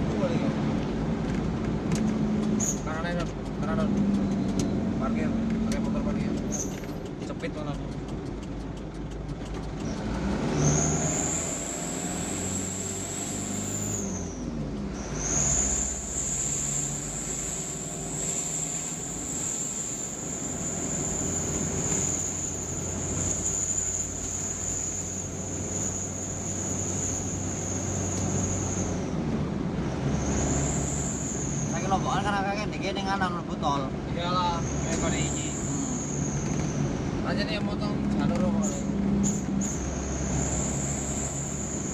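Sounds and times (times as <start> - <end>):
truck engine humming: 0.0 - 41.9.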